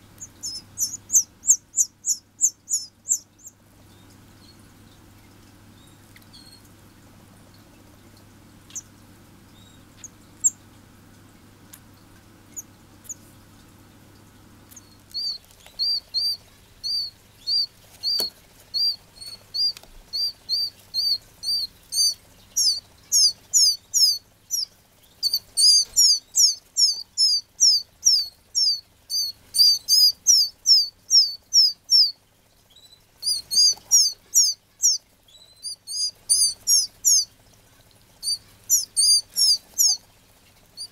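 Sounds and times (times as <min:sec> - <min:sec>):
bird chicks chirping: 0:00.0 - 0:10.8, 0:11.7 - 0:40.9.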